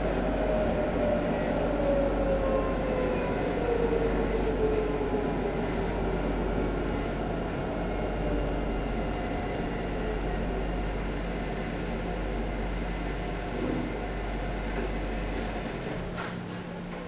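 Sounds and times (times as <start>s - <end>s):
tram wheels rumbling on rail: 0.0s - 17.0s.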